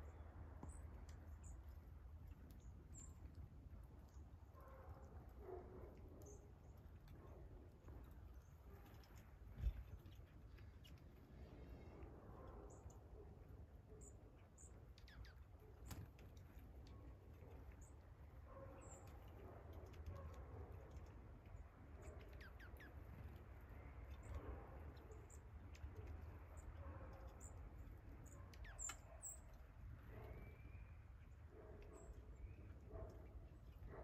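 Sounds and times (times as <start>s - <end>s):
songbird chirps: 0.0s - 34.0s.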